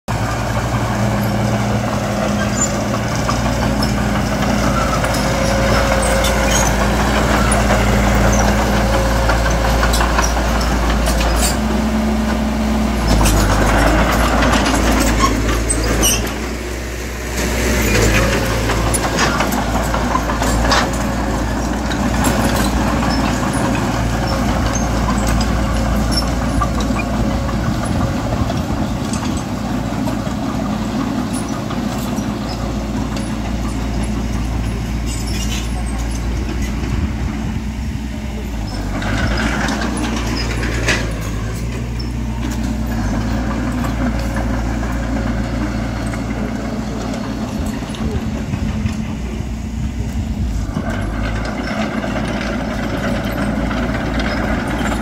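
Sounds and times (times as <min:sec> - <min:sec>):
diesel construction machinery running: 0:00.0 - 0:55.0.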